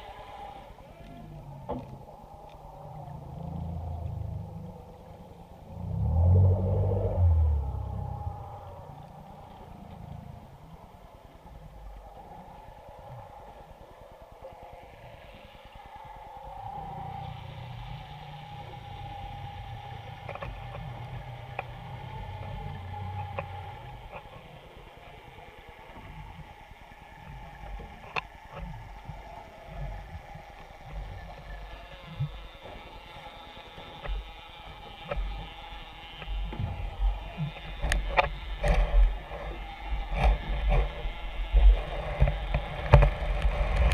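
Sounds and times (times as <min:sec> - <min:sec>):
underwater machinery rumble: 0:00.0 - 0:43.9.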